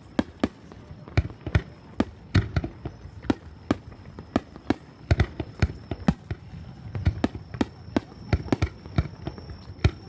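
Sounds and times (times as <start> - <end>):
fireworks bangs and booms: 0.0 - 10.0.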